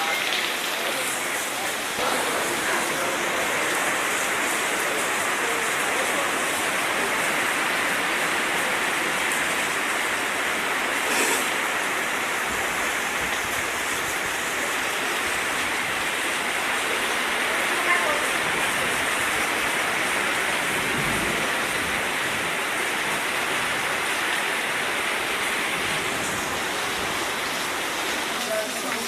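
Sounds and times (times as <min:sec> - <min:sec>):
heavy rain downpour: 0:00.0 - 0:29.0.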